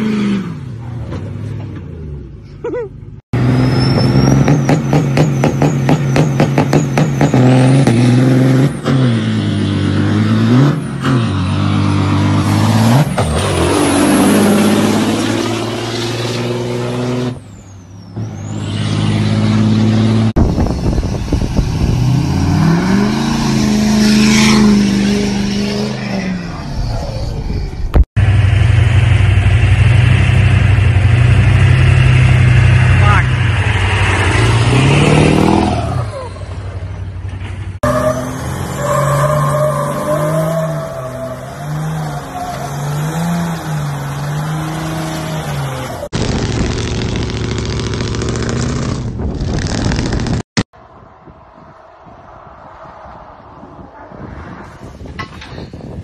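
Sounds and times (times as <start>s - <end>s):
diesel truck engines revving: 0.0s - 50.5s.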